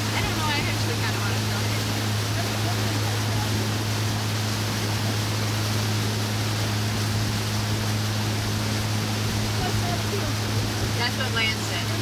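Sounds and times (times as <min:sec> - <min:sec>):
boat engine hum: 0:00.0 - 0:12.0
rush of wind and water: 0:00.0 - 0:12.0.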